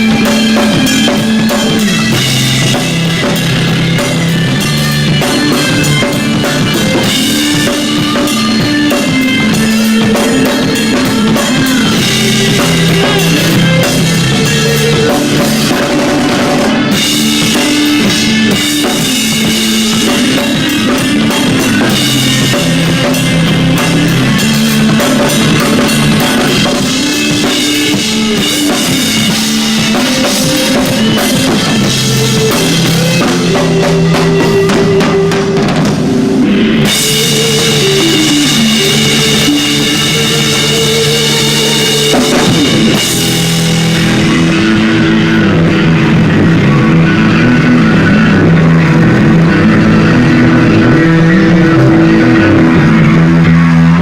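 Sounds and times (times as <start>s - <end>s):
drum kit with cymbals: 0.0s - 54.0s
live rock band: 0.0s - 54.0s.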